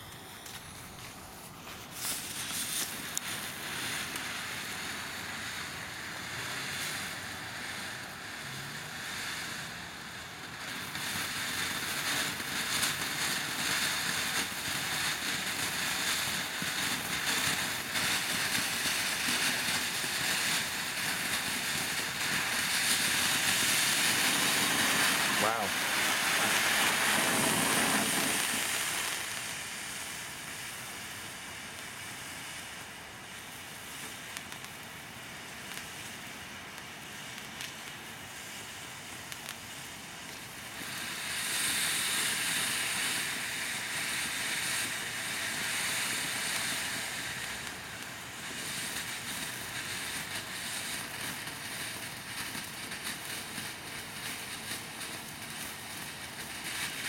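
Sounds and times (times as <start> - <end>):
small crackles: 0.0 - 4.8, 10.6 - 57.0
firework fountain hissing: 0.0 - 57.0.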